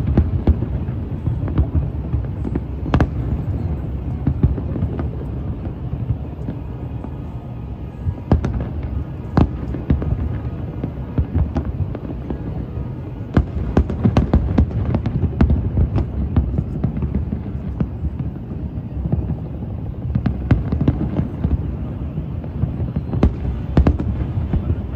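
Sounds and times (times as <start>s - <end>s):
fireworks bangs and pops: 0.0s - 24.9s.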